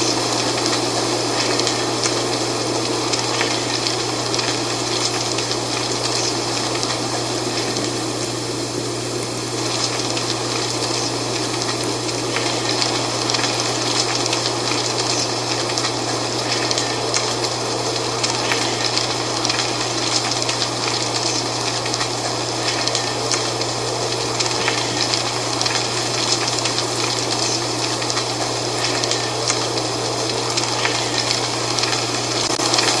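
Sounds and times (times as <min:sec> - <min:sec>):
wind rustling dry leaves: 0:00.0 - 0:33.0.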